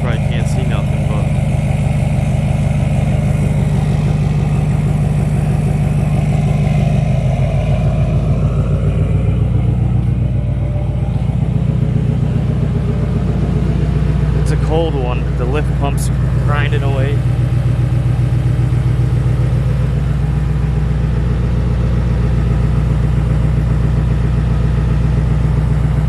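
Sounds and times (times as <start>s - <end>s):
diesel engine idling loud: 0.0s - 26.0s
fuel pump grinding: 0.0s - 26.0s.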